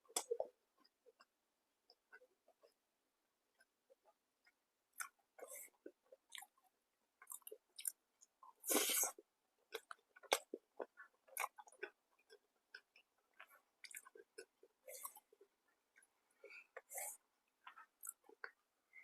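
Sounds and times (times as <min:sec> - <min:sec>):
person chewing food: 0:00.1 - 0:02.8, 0:03.5 - 0:18.7.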